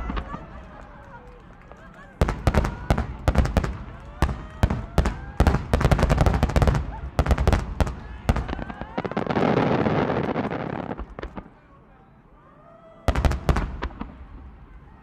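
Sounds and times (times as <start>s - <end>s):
crackle of small firework bursts: 0.0s - 11.7s, 13.1s - 15.0s.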